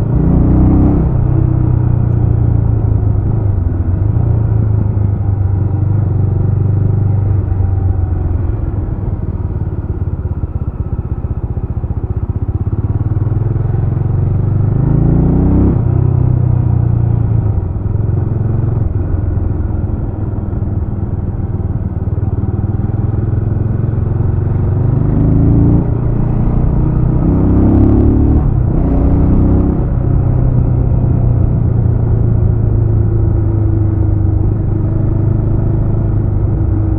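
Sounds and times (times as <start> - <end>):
motorcycle engine revving: 0.0 - 11.0, 11.8 - 36.9.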